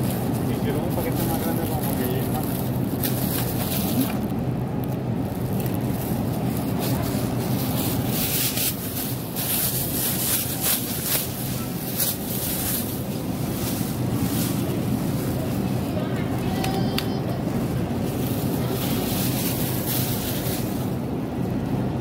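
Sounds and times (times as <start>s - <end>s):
supermarket background rumble: 0.0s - 22.0s.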